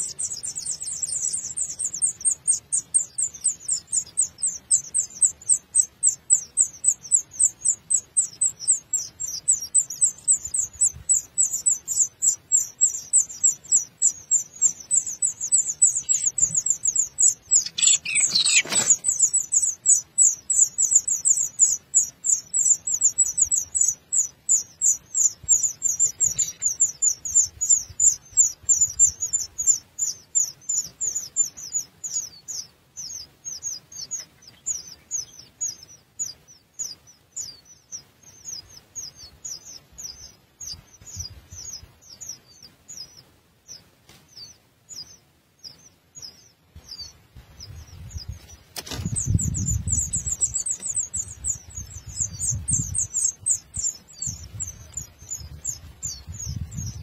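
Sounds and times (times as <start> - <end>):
nestlings cheeping: 0.0 - 43.3, 44.3 - 57.0
rustle: 0.0 - 57.0.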